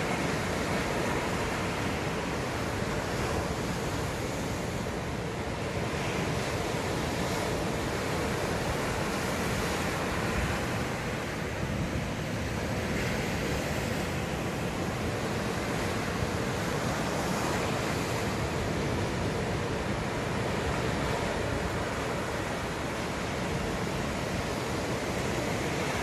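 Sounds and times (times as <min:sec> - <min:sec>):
waves washing onto shore: 0:00.0 - 0:26.0.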